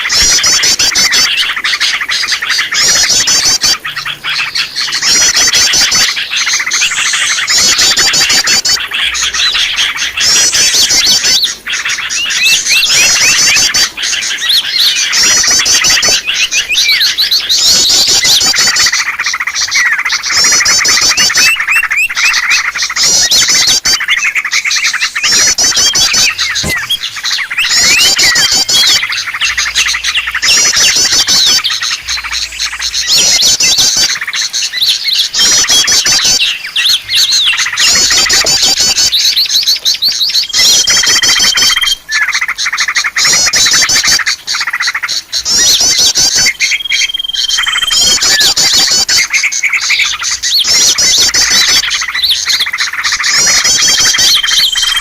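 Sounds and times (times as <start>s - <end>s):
fast high bird trills: 0.0s - 55.0s
songbirds chirping and twittering: 0.0s - 55.0s.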